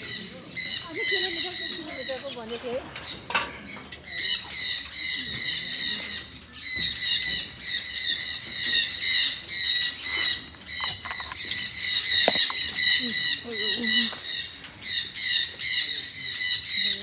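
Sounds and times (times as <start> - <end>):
chorus of high bird calls: 0.0 - 17.0.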